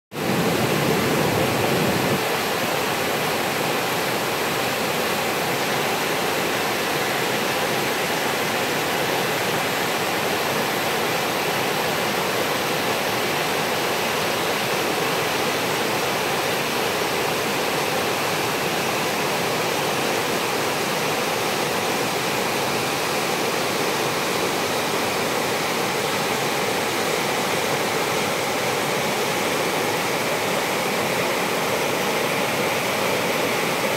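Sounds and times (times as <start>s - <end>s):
flowing water rushing: 0.1s - 33.9s.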